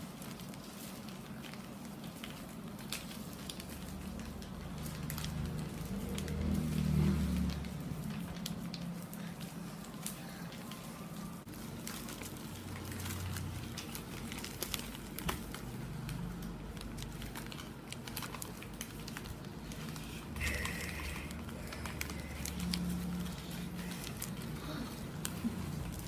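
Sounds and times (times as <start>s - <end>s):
paper crinkling and crackling: 0.0s - 26.0s.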